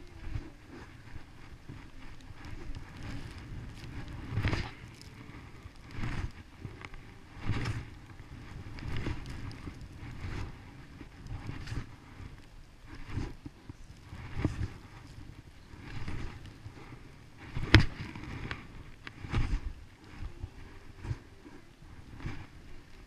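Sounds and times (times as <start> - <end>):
skis sliding over snow: 0.0 - 23.0.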